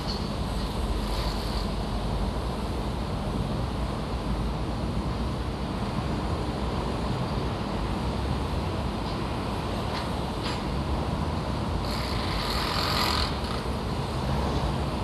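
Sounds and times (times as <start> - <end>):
traffic: 0.0 - 15.0.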